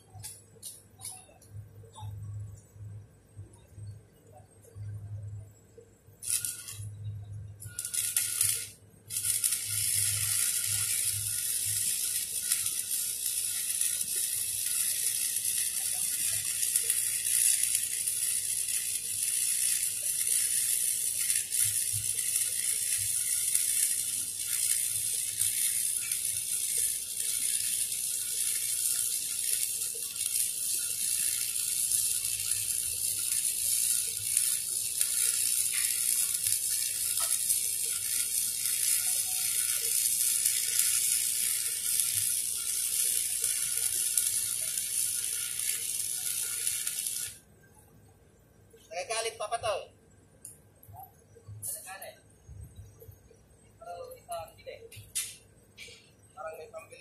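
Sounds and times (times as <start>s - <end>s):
welding arc crackling and sizzling: 0.0s - 47.9s, 48.7s - 57.0s.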